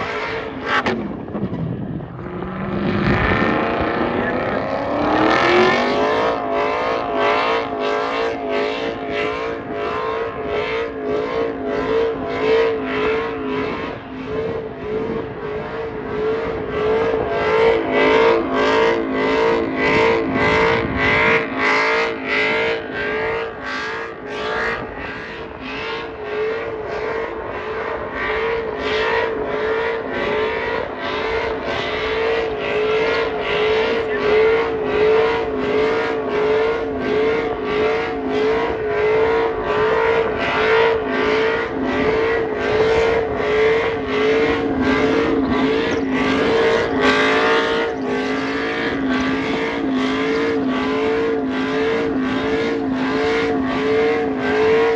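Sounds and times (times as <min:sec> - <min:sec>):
tires spinning: 0:00.0 - 0:54.9
truck engine at high revs: 0:00.0 - 0:54.9.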